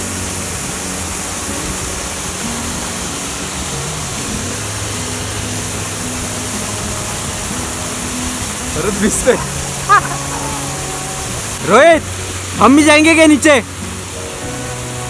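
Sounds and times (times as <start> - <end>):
water splashing onto rocks: 0.0 - 14.6.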